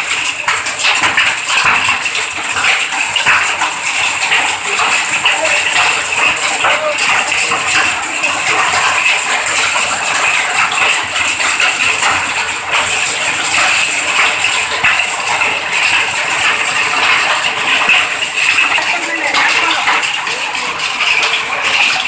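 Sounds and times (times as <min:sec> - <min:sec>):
hail hitting hard surfaces: 0:00.0 - 0:22.0.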